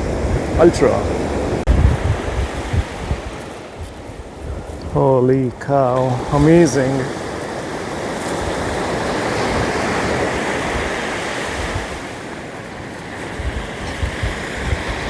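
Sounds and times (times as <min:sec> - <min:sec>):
waves breaking on a beach: 0:00.0 - 0:15.0
wind rumbling on microphone: 0:00.0 - 0:15.0.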